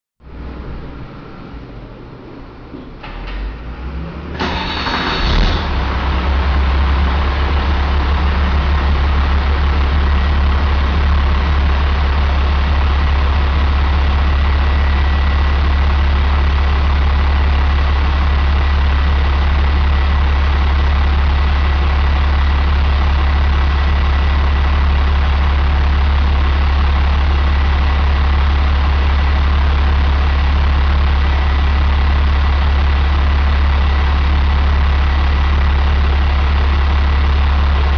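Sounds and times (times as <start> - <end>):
diesel engine idling: 3.4 - 37.9.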